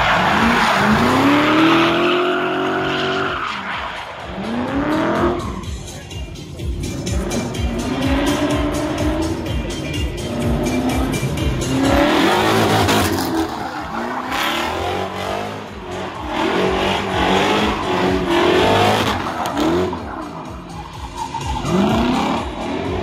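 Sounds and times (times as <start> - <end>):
car engine revving: 0.0 - 5.6, 6.6 - 23.0.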